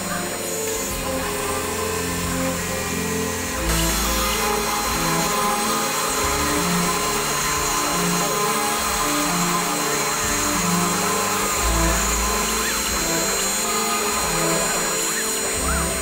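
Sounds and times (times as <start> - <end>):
background music: 0.0 - 16.0
cnc router spindle whine: 0.0 - 16.0
bit cutting into wood: 0.1 - 16.0.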